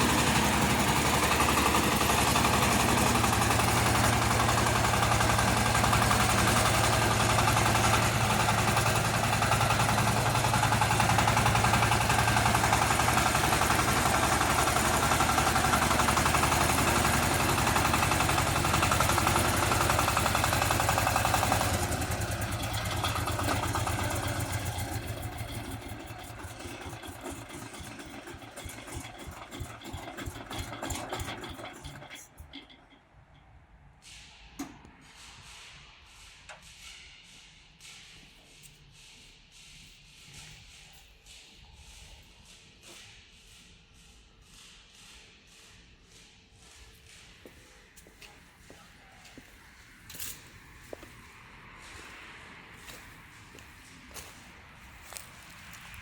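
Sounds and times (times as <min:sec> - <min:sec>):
tractor engine running: 0:00.0 - 0:33.4, 0:44.5 - 0:56.0.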